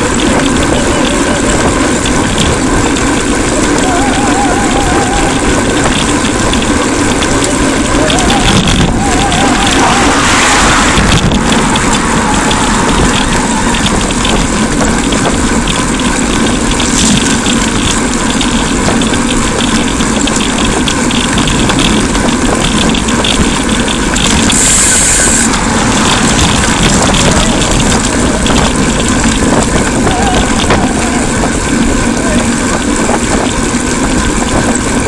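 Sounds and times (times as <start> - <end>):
traffic engine rumble: 0.0 - 35.0
wind noise: 0.0 - 35.0.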